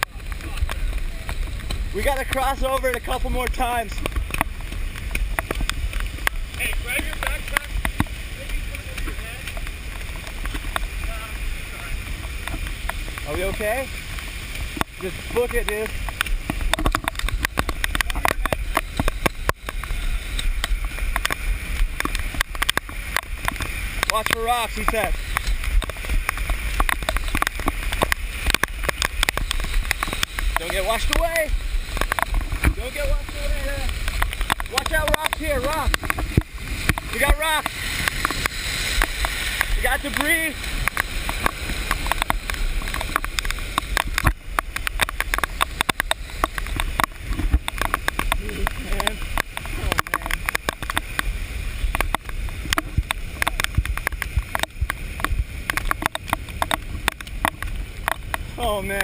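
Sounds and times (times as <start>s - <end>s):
low muffled rumble: 0.0s - 59.0s
muffled rushing floodwater: 0.0s - 59.0s.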